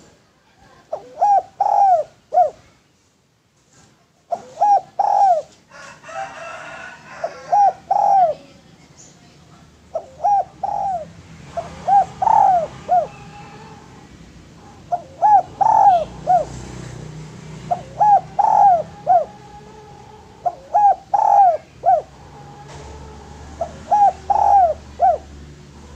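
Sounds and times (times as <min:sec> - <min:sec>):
dove cooing: 0:00.6 - 0:02.7, 0:04.3 - 0:08.8, 0:09.8 - 0:25.9.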